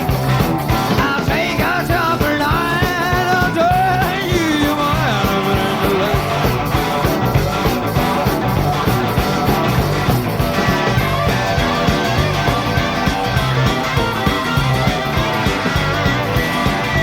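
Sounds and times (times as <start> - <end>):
rock band playing instrumental: 0.0 - 17.0.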